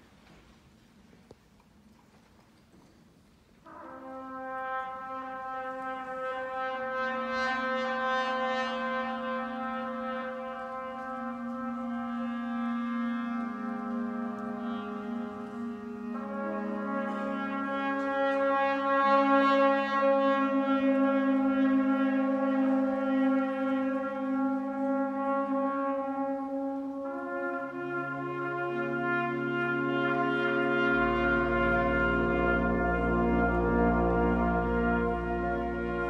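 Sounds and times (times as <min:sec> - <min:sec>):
concert band brass chords: 0:03.6 - 0:36.0.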